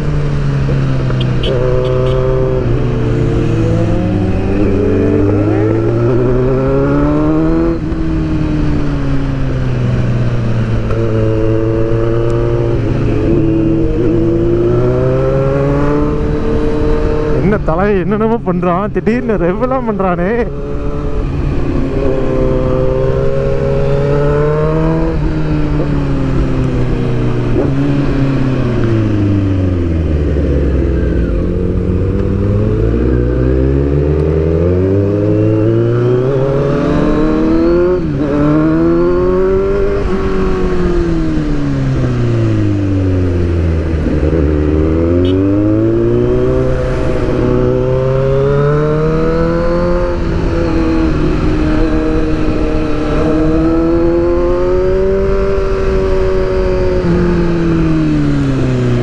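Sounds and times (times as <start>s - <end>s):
motorcycle engine revving: 0.0s - 59.0s
wind rush: 0.8s - 33.4s, 34.6s - 59.0s.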